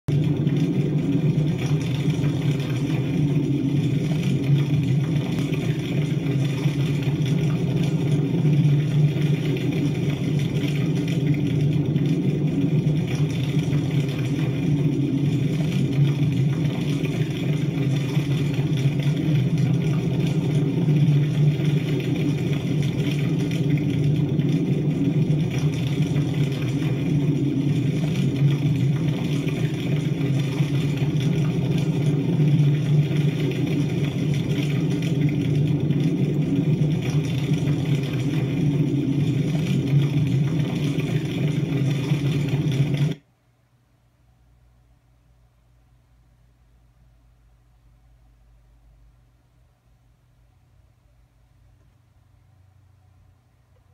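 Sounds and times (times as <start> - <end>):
steady low rumble: 0.0 - 53.9.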